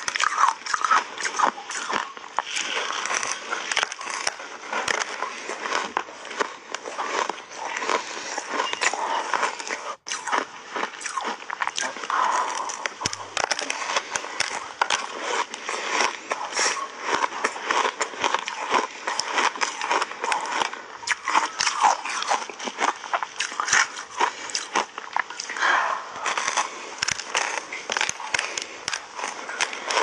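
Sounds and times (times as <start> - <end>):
ice crunching while chewed: 0.0 - 30.0.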